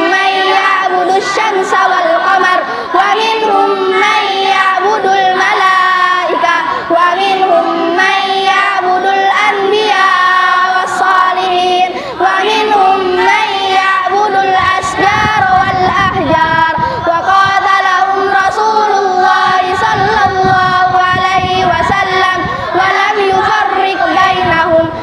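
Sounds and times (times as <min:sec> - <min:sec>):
children chanting in unison: 0:00.0 - 0:25.0.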